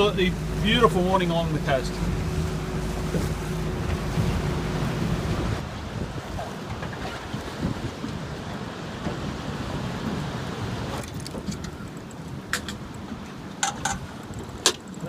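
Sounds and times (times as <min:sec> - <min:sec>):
boat motor running: 0:00.0 - 0:15.0
wind and sea noise: 0:00.0 - 0:15.0.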